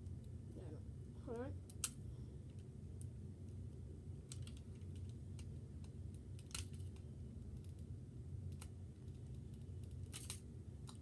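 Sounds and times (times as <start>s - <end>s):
faint steady low hum: 0.0s - 11.0s.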